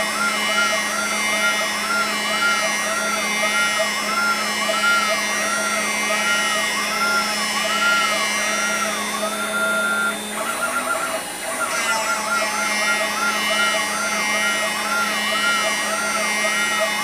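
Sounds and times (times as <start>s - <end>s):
spindle hum: 0.0s - 17.0s
stepper motors whining: 0.0s - 17.0s.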